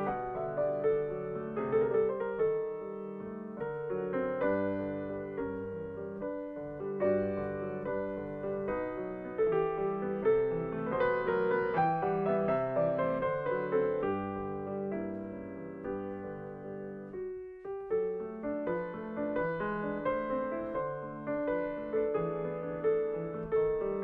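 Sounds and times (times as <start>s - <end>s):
solo grand piano: 0.0s - 24.0s.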